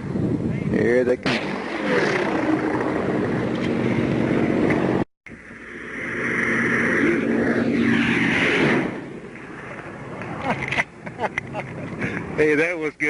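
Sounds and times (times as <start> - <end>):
piston aircraft engines droning: 0.0 - 13.0.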